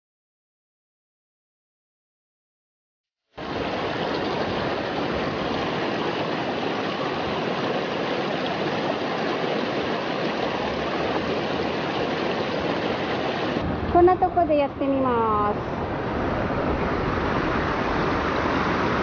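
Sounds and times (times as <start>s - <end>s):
river water rushing: 3.4s - 19.0s.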